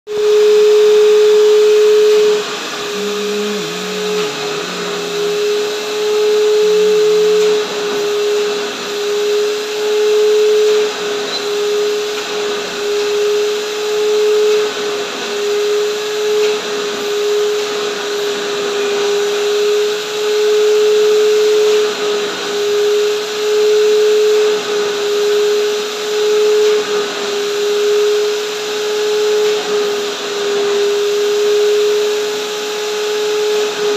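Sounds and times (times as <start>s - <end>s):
vacuum cleaner motor whine: 0.1s - 33.9s.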